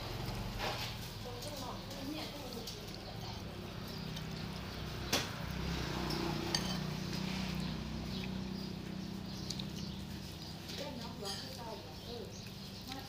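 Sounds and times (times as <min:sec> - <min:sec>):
utensils clinking against bowl: 0:00.5 - 0:08.4, 0:09.2 - 0:13.0.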